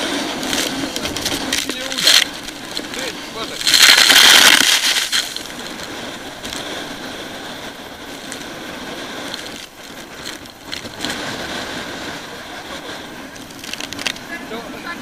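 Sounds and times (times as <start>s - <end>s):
storm surf breaking against pier: 0.0s - 15.0s.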